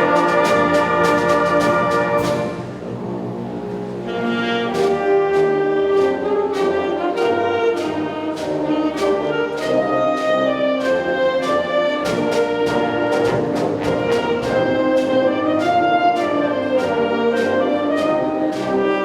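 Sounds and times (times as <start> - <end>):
percussion strikes: 0.0 - 4.0, 4.8 - 18.9
brass chords: 0.0 - 19.0.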